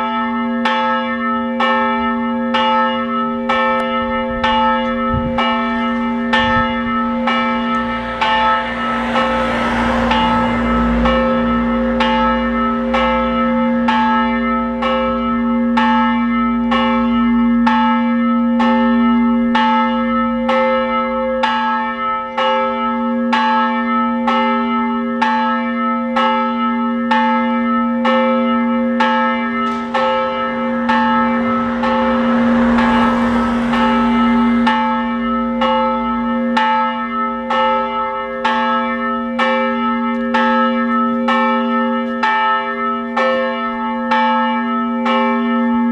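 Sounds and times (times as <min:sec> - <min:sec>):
church bell ringing: 0:00.0 - 0:45.9.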